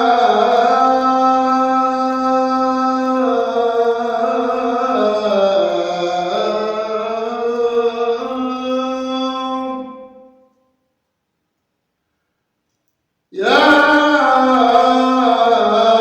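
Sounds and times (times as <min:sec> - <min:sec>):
man chanting a long vowel: 0:00.0 - 0:10.4, 0:13.4 - 0:16.0.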